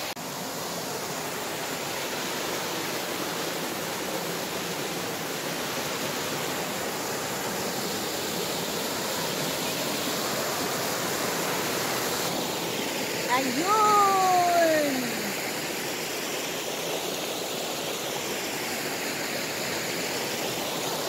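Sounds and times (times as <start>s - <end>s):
stream rushing over boulders: 0.0s - 21.0s.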